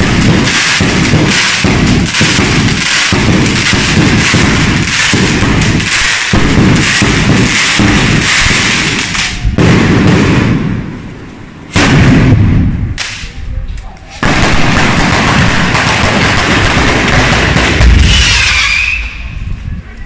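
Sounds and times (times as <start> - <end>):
firecrackers banging: 0.0 - 19.6.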